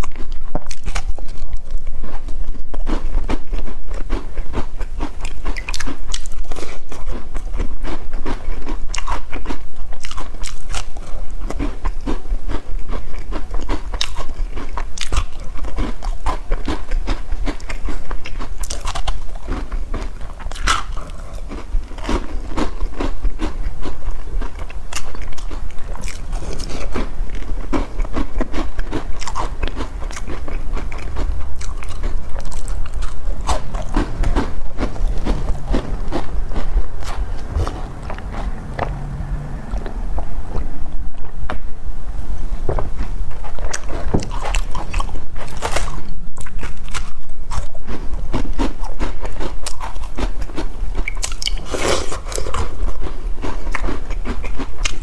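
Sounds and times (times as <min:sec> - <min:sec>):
crunching and chewing biscuits: 0:00.0 - 0:41.7, 0:42.6 - 0:55.0.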